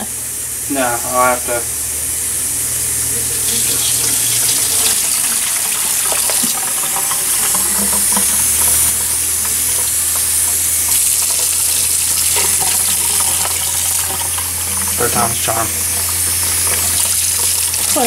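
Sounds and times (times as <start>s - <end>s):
low steady hum: 0.0s - 18.0s
faucet water running into sink: 0.7s - 18.0s.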